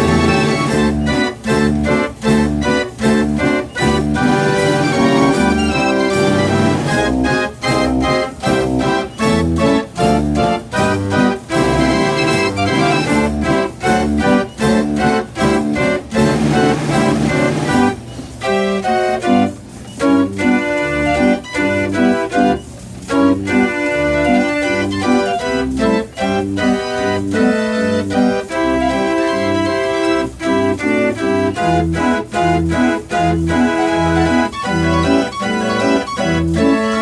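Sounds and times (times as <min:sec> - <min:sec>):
band organ playing: 0:00.0 - 0:37.0.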